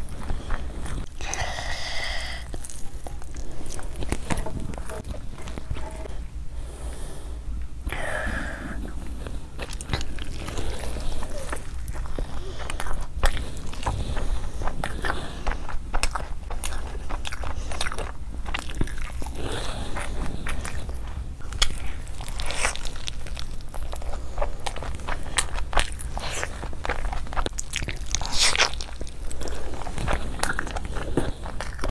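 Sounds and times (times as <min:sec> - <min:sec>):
person chewing and smacking: 0:00.0 - 0:06.2, 0:08.8 - 0:31.9
low hum: 0:00.0 - 0:31.9.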